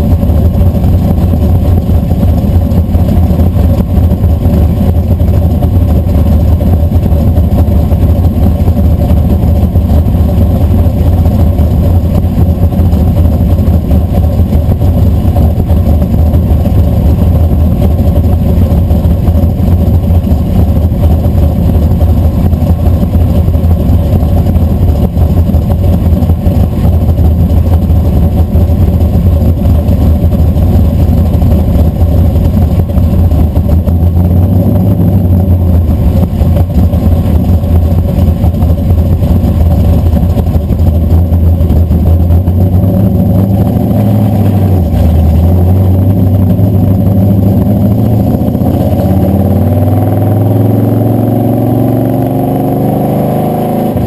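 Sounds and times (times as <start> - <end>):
engine idling loudly: 0.0 - 54.0
truck pulling away: 0.0 - 54.0.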